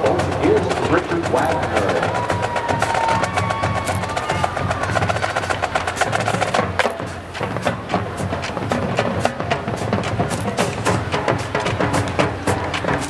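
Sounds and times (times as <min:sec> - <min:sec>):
marching drumline playing: 0:00.0 - 0:13.0.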